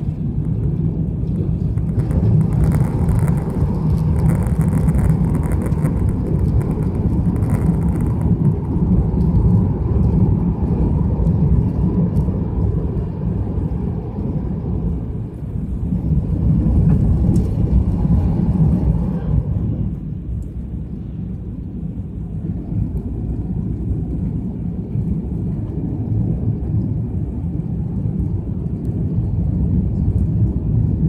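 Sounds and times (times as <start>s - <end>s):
jet engines and airflow rumble: 0.0s - 31.0s.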